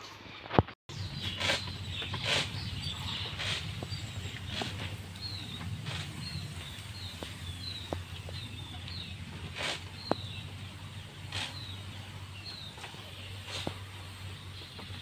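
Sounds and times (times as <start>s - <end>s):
small bird chirping: 0.9s - 13.8s
sprayer hissing bursts: 0.9s - 15.0s.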